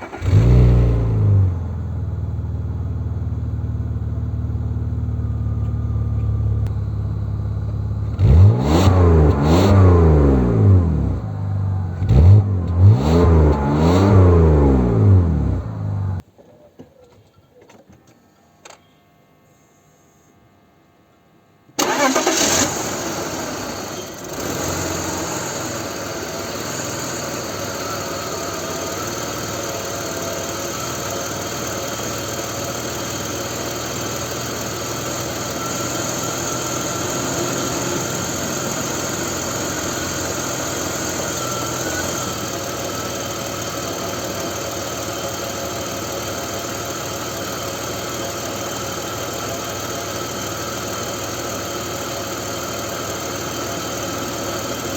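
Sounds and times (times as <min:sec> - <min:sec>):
car engine idling: 0:00.0 - 0:16.3, 0:21.8 - 0:54.9.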